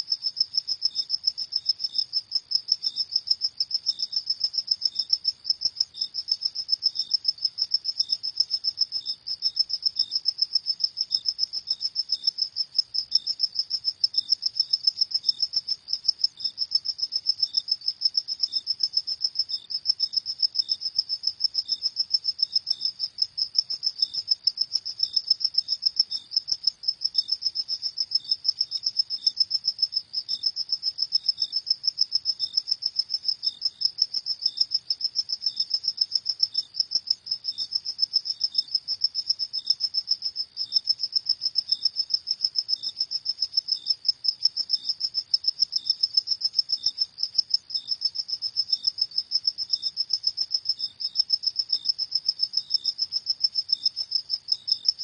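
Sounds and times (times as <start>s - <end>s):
lower cricket chirp: 0.0s - 55.0s.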